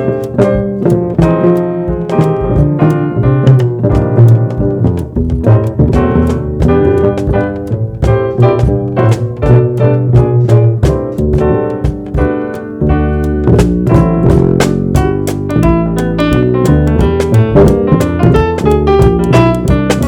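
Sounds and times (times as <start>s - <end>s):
drum kit with cymbal strokes: 0.0s - 20.0s
plucked double bass: 0.0s - 20.0s.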